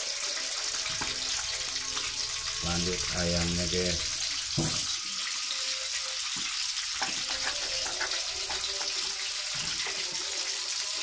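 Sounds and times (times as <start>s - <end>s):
oil crackles and pops: 0.0s - 11.0s
tofu sizzling in hot oil: 0.0s - 11.0s.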